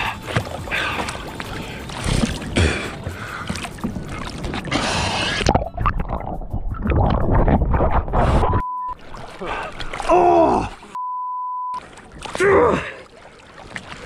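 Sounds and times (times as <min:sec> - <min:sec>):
water sloshing and splashing: 0:00.0 - 0:11.0, 0:11.7 - 0:14.0.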